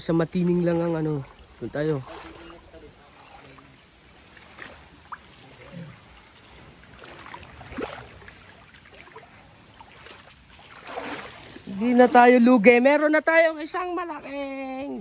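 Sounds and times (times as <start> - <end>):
shallow rocky stream flowing: 0.0 - 15.0.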